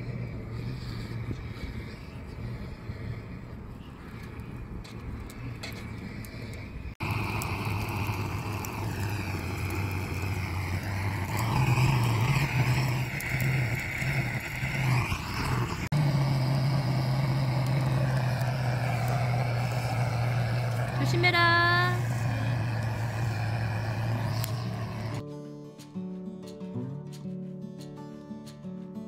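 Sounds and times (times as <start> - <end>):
gas torch flame rushing: 0.0 - 25.2.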